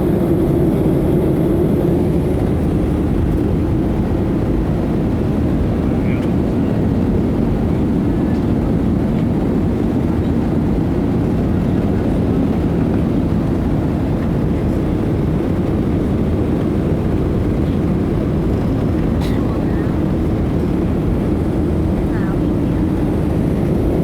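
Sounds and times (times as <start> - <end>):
airplane engine rumble in flight: 0.0 - 24.0.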